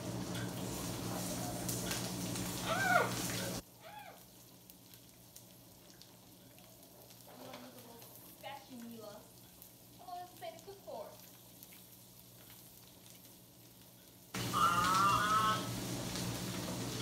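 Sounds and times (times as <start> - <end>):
asparagus sizzling in oil: 0.0 - 17.0.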